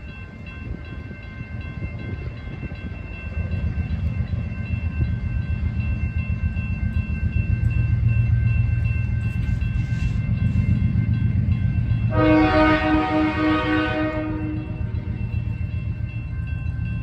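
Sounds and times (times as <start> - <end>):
diesel locomotive rumble: 0.6 - 17.0.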